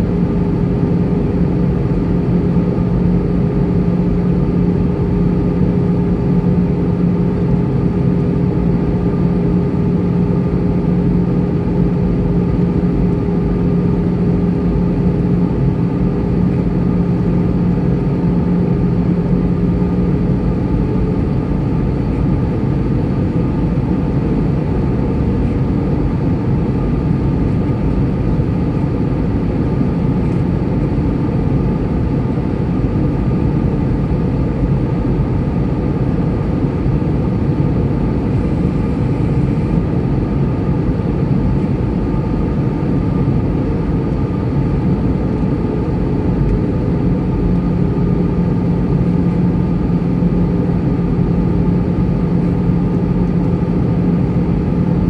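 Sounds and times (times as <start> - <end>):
airplane cabin engine noise: 0.0 - 55.0.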